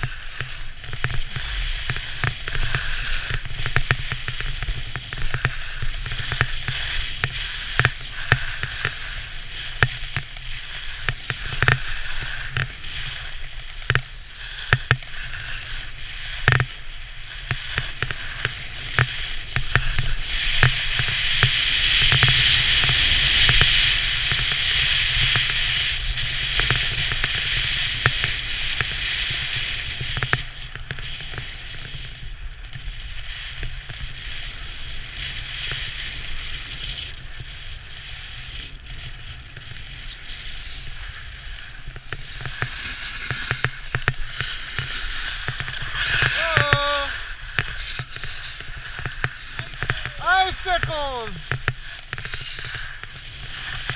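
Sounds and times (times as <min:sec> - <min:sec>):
skis scraping on hard snow: 0:00.0 - 0:53.9.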